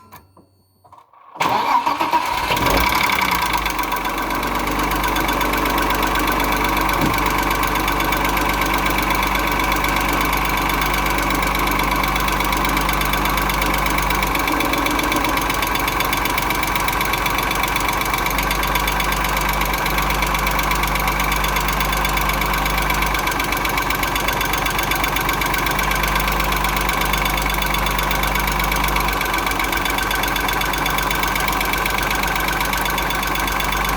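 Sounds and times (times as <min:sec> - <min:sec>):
car engine idling: 0:01.5 - 0:33.9
engine knocking: 0:01.5 - 0:33.9.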